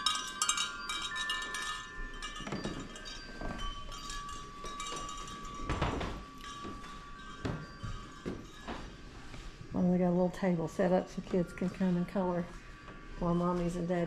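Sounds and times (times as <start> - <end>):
wind chimes ringing softly: 0.0 - 14.0.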